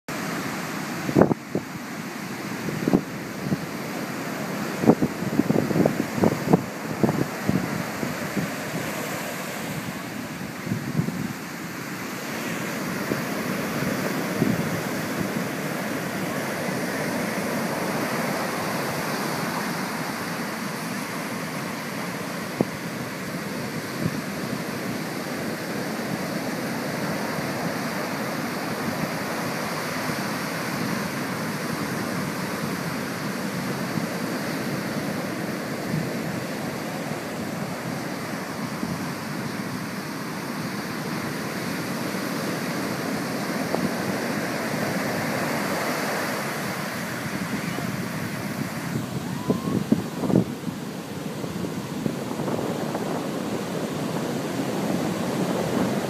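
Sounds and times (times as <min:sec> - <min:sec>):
surf washing over beach: 0:00.1 - 0:56.0.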